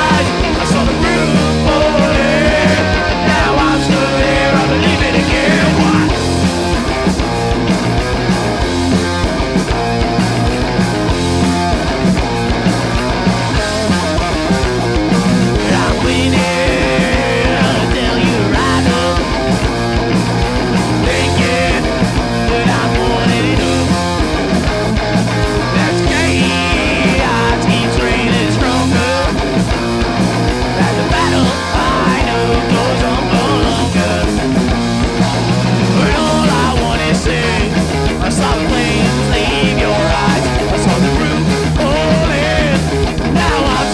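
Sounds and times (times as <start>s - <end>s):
bass guitar: 0.0s - 43.9s
electric guitar: 0.0s - 43.9s
steady drum beat: 0.0s - 43.9s.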